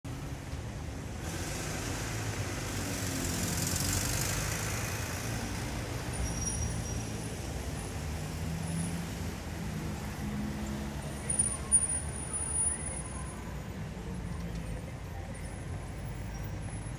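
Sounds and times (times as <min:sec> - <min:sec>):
vehicles passing: 0:00.1 - 0:16.9.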